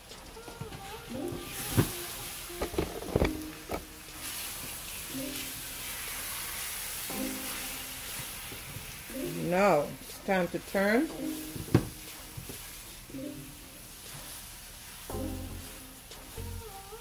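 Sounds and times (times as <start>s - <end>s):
faint background music: 0.0s - 17.0s
vegetables sizzling in a pan: 0.1s - 17.0s.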